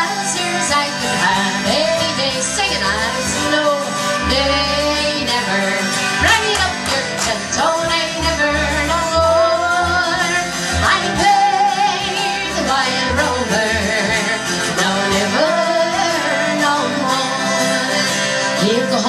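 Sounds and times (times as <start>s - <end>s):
acoustic guitar: 0.0s - 19.0s
double bass: 0.0s - 19.0s
fiddle: 0.0s - 19.0s.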